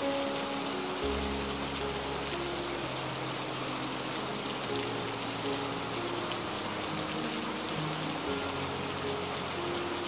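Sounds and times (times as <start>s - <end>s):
rain hissing: 0.0s - 10.0s
soft low music notes: 0.0s - 10.0s.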